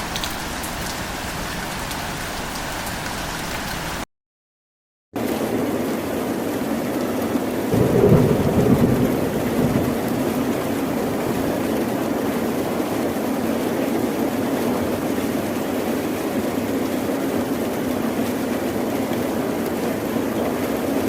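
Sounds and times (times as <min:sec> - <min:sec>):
steady rain falling: 0:00.0 - 0:04.0, 0:05.2 - 0:21.0.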